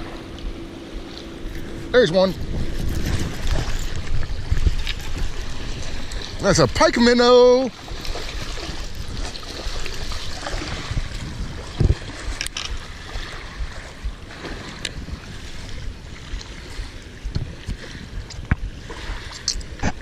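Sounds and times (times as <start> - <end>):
small waves lapping: 0.0 - 20.0
wind buffeting microphone: 0.0 - 20.0.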